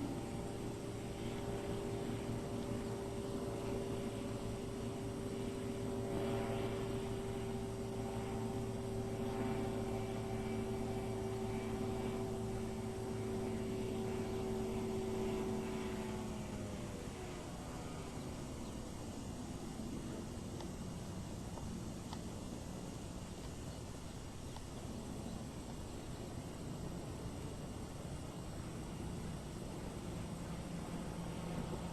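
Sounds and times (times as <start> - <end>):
light aircraft engine droning: 0.0 - 31.9.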